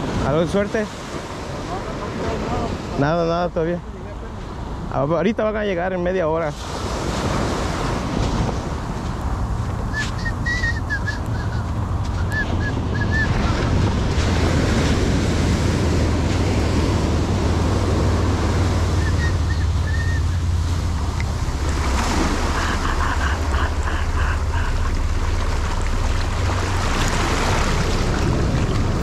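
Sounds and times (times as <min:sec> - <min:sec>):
wind rumbling on microphone: 0:00.0 - 0:03.0, 0:06.4 - 0:29.0
waves breaking on sandy beach: 0:00.0 - 0:29.0.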